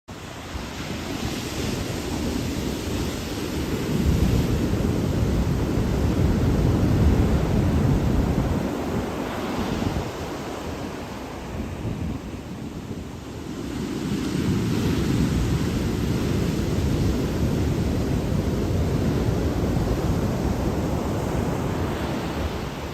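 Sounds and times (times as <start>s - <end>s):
ocean surf washing onto beach: 0.1s - 22.9s
wind rumbling on microphone: 0.1s - 22.9s.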